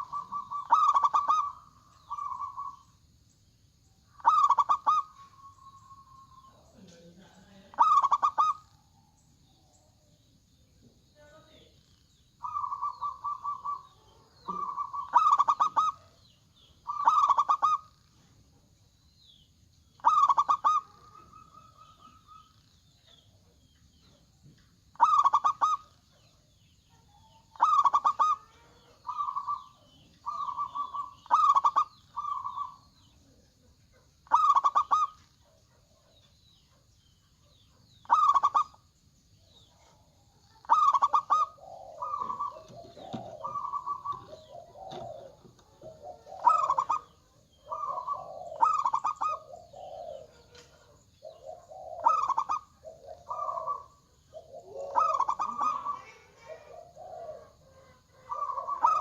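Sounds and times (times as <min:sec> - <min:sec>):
dove cooing: 0:00.0 - 0:03.1, 0:04.0 - 0:09.0, 0:12.4 - 0:18.4, 0:20.0 - 0:24.3, 0:24.9 - 0:36.2, 0:37.5 - 0:38.8, 0:39.4 - 0:59.0.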